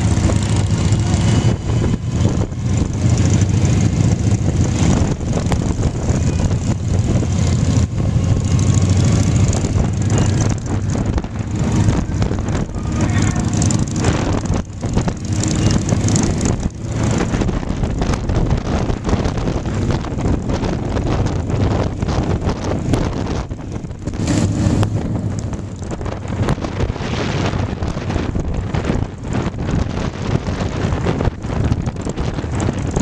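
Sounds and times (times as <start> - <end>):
motorcycle running: 0.0 - 33.0
other motorcycles nearby: 0.0 - 33.0
wind rushing over microphone: 0.0 - 33.0.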